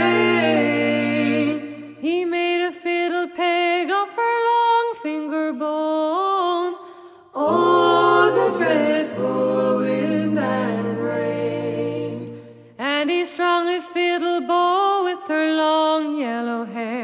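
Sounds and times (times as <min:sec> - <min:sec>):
wordless sung melody: 0:00.0 - 0:17.0.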